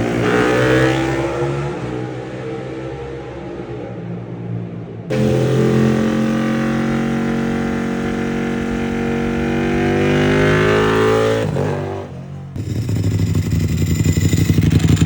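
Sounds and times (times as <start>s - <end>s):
motorcycle engine accelerating: 0.0s - 3.5s, 5.1s - 15.0s.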